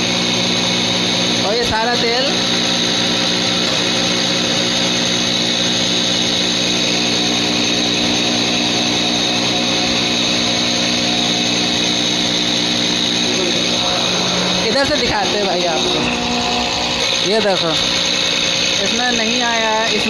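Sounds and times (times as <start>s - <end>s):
test bench motor hum and whine: 0.0s - 20.0s.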